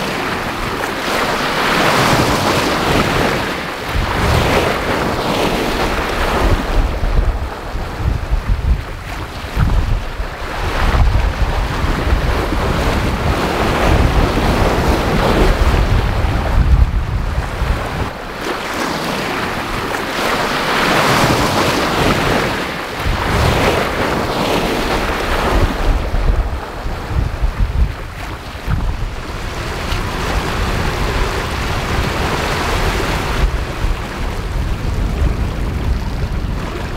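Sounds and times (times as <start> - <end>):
bow wave splashing along hull: 0.0 - 36.9
wind buffeting microphone: 0.0 - 36.9.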